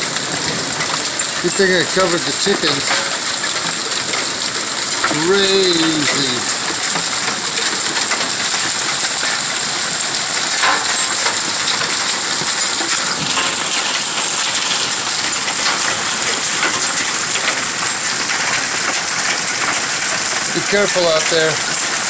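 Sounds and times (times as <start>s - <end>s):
hailstones clicking: 0.0s - 22.0s
heavy rain hissing: 0.0s - 22.0s.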